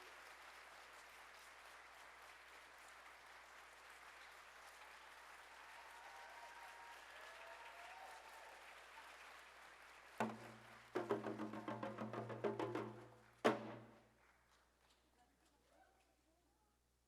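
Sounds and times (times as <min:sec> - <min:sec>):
faint audience applause: 0:00.0 - 0:15.8.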